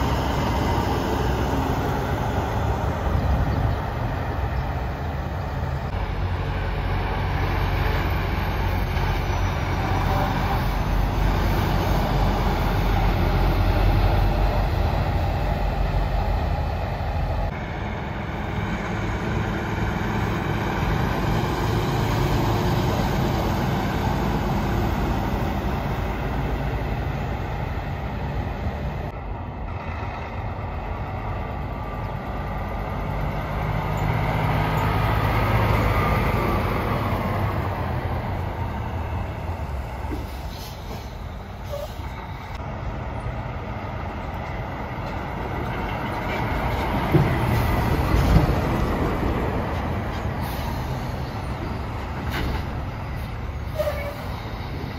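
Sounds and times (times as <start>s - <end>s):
trucks driving past: 0.0s - 54.9s.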